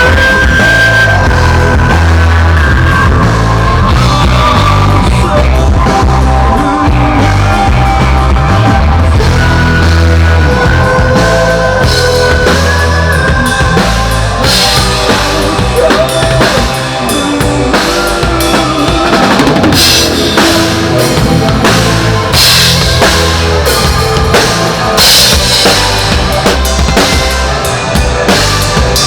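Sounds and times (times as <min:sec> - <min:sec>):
rock band playing loudly: 0:00.0 - 0:29.0.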